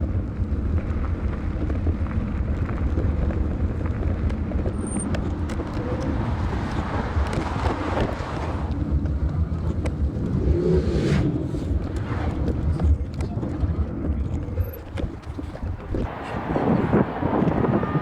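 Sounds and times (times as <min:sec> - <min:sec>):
road traffic rumble: 0:00.0 - 0:18.0
wind on microphone: 0:00.0 - 0:18.0.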